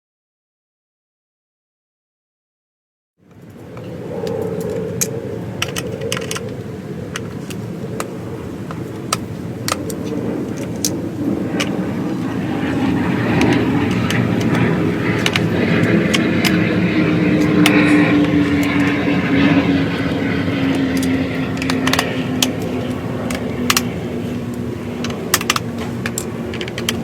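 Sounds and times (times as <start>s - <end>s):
sharp clicks and rattles: 3.4s - 19.0s, 19.9s - 27.0s.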